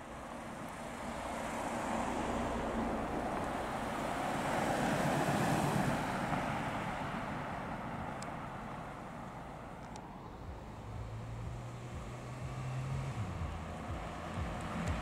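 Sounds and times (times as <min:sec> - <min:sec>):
cars driving slowly past: 0:00.0 - 0:15.0.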